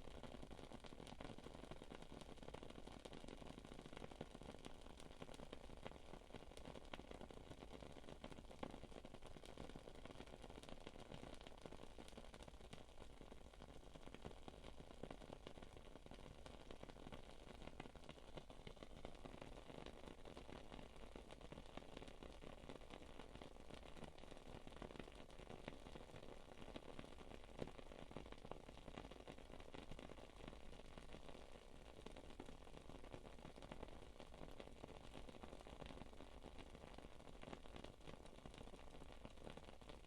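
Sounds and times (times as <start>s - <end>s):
low steady hiss: 0.0s - 40.0s.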